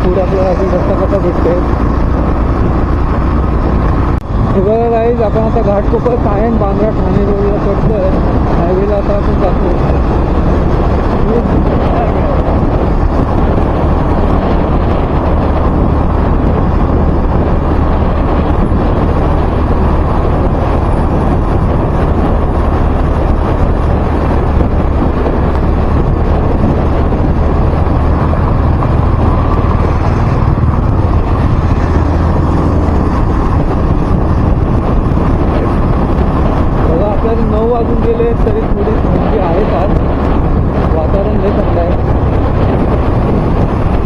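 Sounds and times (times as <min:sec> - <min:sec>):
road and engine drone: 0:00.0 - 0:44.0
wind rumble on microphone: 0:00.0 - 0:44.0.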